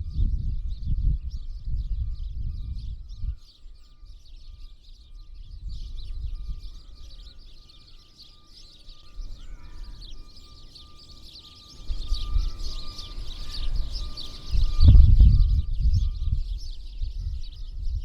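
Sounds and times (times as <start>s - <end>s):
small birds chirping and twittering: 0.0s - 18.0s.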